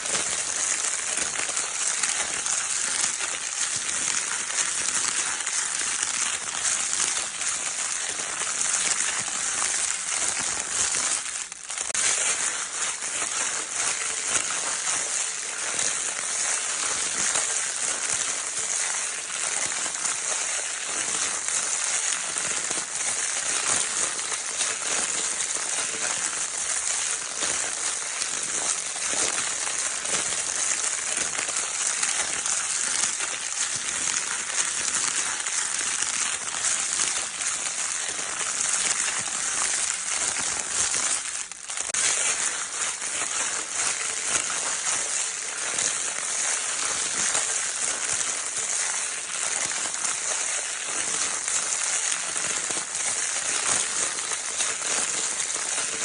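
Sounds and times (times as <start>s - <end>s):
crinkle paper crackling: 0.0s - 56.0s.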